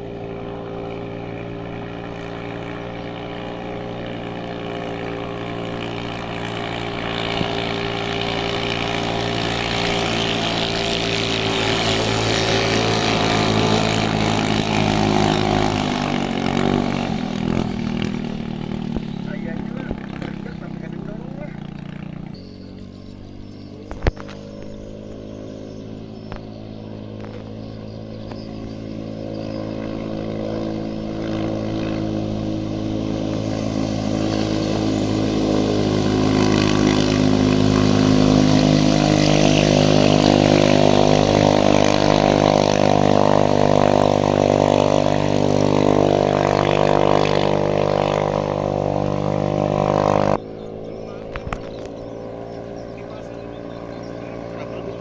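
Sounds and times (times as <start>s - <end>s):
racing boat engine: 0.0s - 55.0s.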